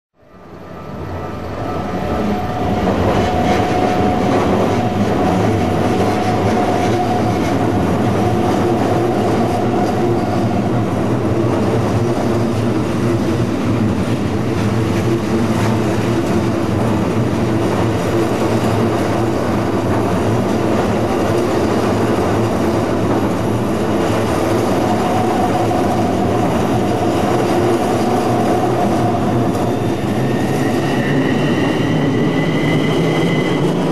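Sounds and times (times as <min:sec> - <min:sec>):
electric train rolling past: 0:00.2 - 0:33.9.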